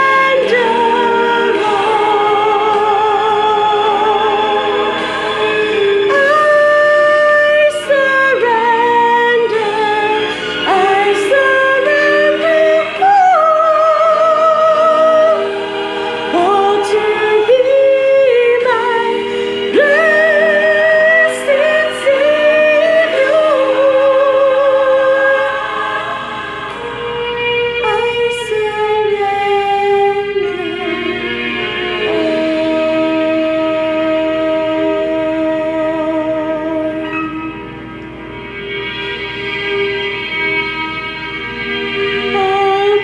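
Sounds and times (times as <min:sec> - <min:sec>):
woman singing with vibrato: 0:00.0 - 0:37.4, 0:41.4 - 0:43.0
instrumental accompaniment: 0:00.0 - 0:43.0.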